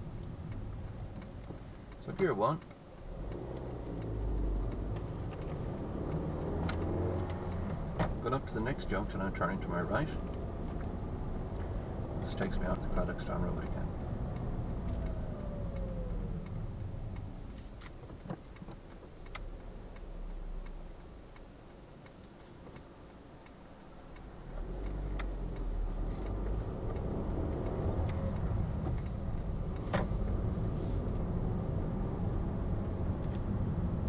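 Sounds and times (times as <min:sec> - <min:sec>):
sharp clicks: 0:00.0 - 0:31.8
car engine and road noise: 0:00.0 - 0:34.0
turn indicator ticking: 0:00.0 - 0:34.0.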